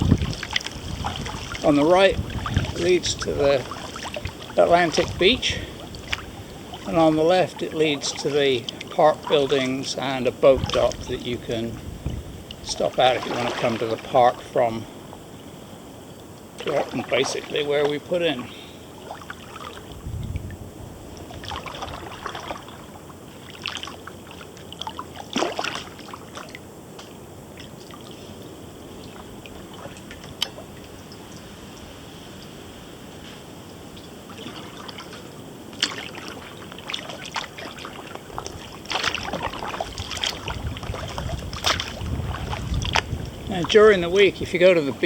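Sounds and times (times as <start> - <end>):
kayak paddle splashes: 0.0 - 15.8, 16.5 - 20.4, 21.0 - 32.4, 33.1 - 45.0
steady low hiss: 0.0 - 45.0.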